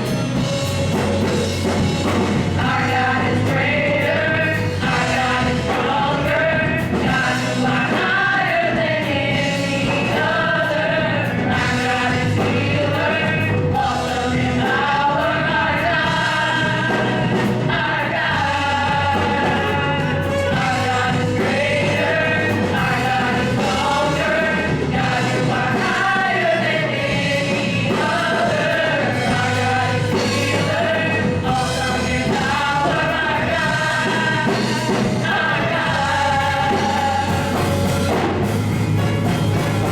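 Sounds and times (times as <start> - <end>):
singers singing together: 0.0 - 39.9
worship band playing: 0.0 - 39.9.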